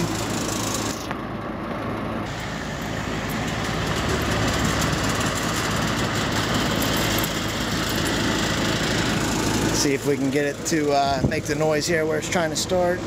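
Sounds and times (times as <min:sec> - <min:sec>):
air conditioner unit humming: 0:00.0 - 0:13.0.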